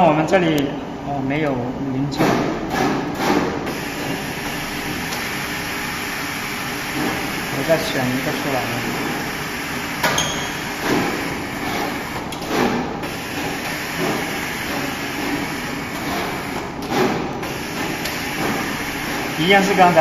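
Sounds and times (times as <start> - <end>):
machine and ventilation hum: 0.0 - 20.0.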